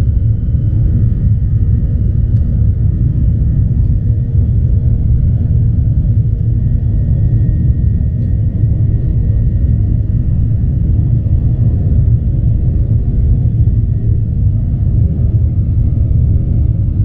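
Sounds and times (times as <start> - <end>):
aircraft cabin rumble: 0.0 - 17.0
faint steady whine: 0.0 - 17.0.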